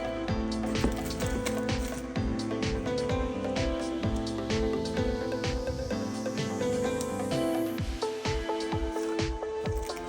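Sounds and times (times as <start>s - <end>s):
electronic music: 0.0s - 10.0s
steady kick drum beat: 0.0s - 10.0s.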